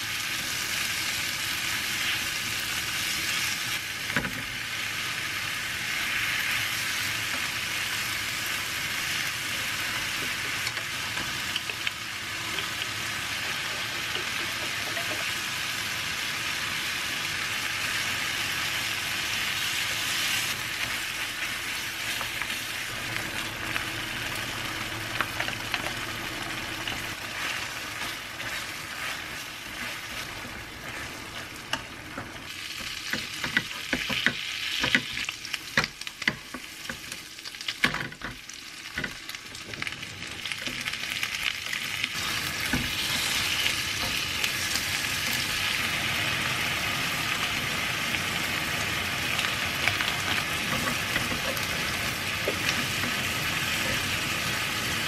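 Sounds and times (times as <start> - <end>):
food sizzling in frying pan: 0.0 - 55.0.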